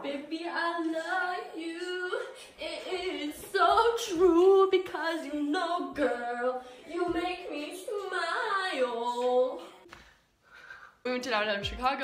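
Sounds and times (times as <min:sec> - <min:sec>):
woman singing: 0:00.0 - 0:09.9, 0:11.4 - 0:12.0.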